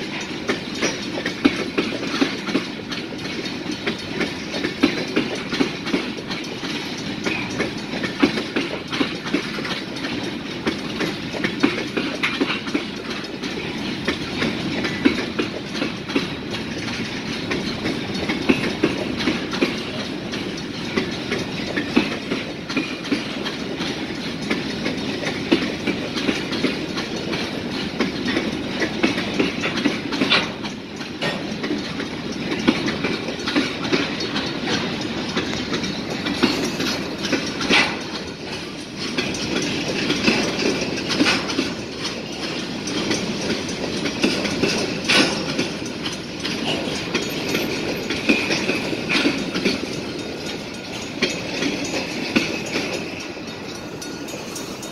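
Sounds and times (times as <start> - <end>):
freight train rolling rumble: 0.0 - 54.9
train wheels clicking over rail joints: 0.0 - 54.9.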